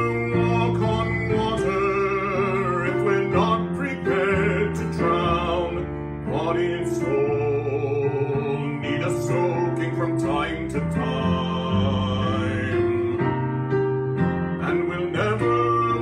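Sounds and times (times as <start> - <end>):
man and woman singing: 0.0 - 13.2, 14.6 - 16.0
piano accompaniment: 0.0 - 16.0.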